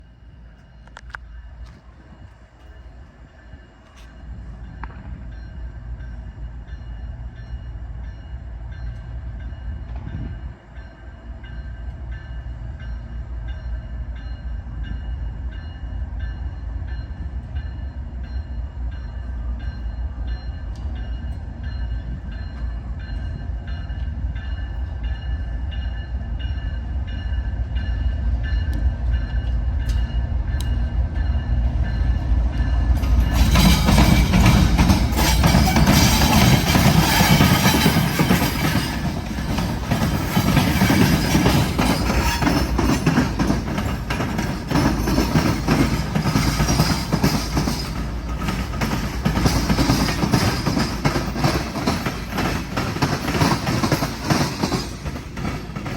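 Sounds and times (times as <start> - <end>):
diesel train rumble: 0.0 - 55.9.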